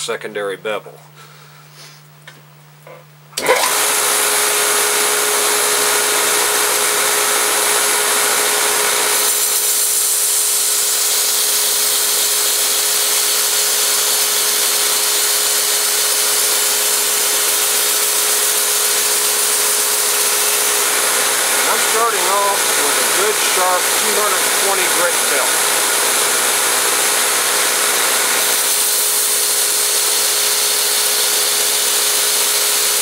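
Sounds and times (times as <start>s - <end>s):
belt grinder humming: 3.4s - 33.0s.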